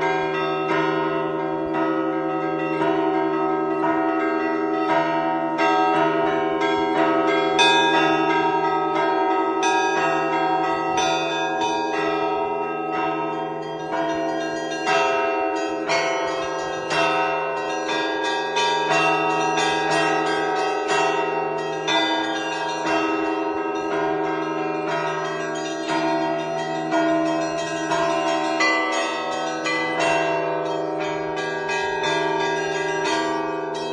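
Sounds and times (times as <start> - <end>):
hum of large bells: 0.0 - 33.9
small church bells pealing: 0.0 - 33.9.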